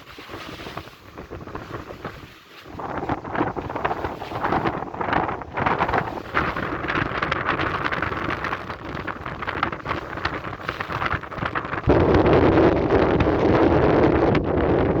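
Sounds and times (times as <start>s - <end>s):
wind buffeting microphone: 0.0s - 15.0s
low rumble: 3.0s - 15.0s.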